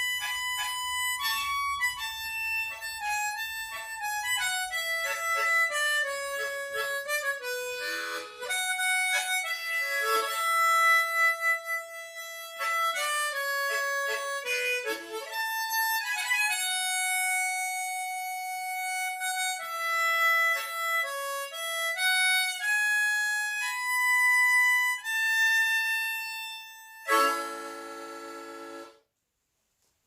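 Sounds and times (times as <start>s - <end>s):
harmonica playing slow melody: 0.0s - 29.1s.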